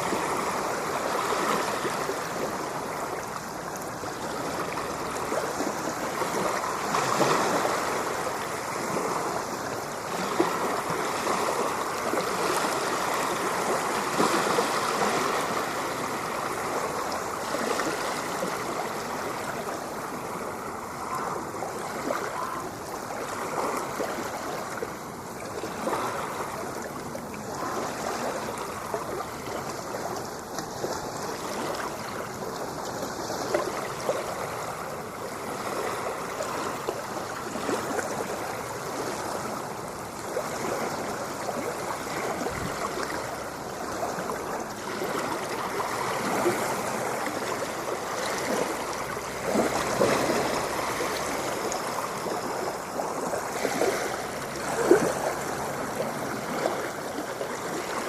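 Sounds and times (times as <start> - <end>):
ocean waves washing: 0.0 - 58.0.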